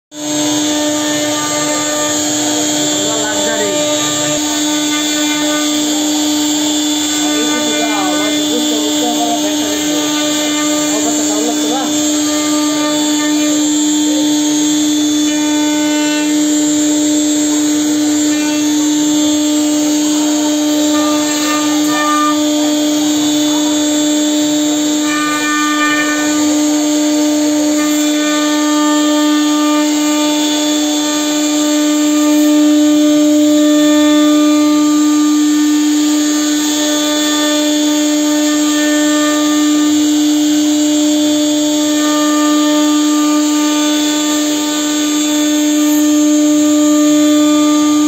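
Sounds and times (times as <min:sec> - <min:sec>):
bit cutting wood: 0:00.1 - 0:48.0
router spindle whining: 0:00.1 - 0:48.0.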